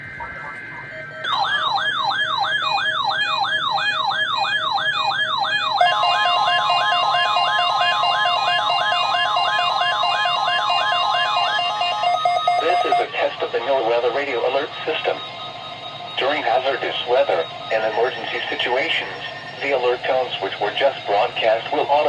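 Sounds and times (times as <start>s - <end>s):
falling siren-like sweep: 0.0s - 21.9s
steady high tone: 0.0s - 22.0s.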